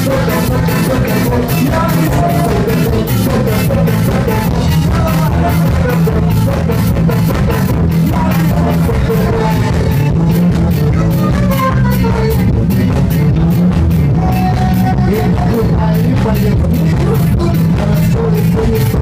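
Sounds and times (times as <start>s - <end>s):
live ska band playing: 0.0s - 19.0s
person singing: 0.0s - 19.0s.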